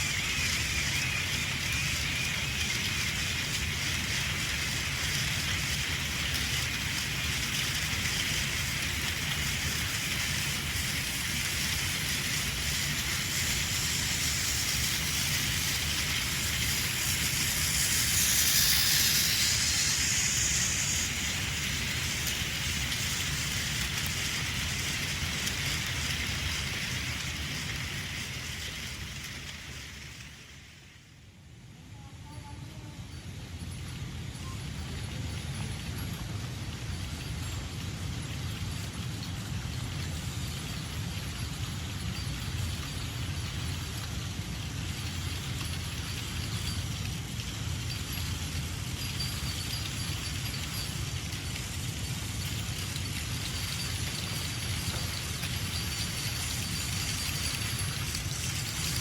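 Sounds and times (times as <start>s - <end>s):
toy train whirring on plastic track: 0.0s - 59.0s.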